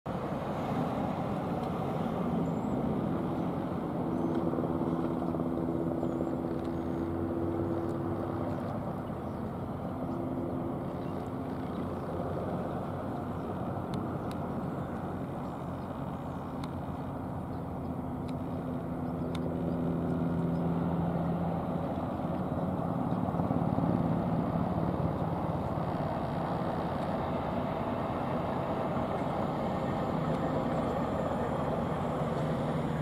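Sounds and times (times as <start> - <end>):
helicopter flying past: 0.1 - 33.0.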